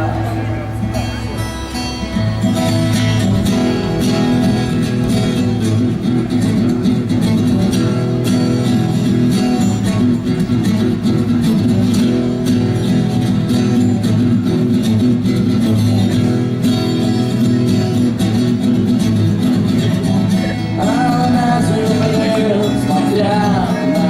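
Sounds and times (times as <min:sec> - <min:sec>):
guitar: 0:00.0 - 0:24.0.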